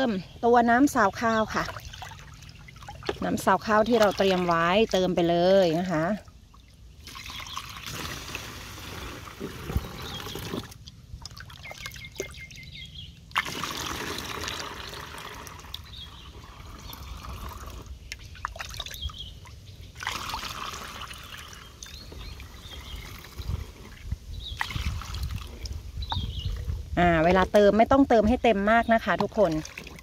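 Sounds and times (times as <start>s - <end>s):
water trickling through a funnel: 0.0s - 30.0s.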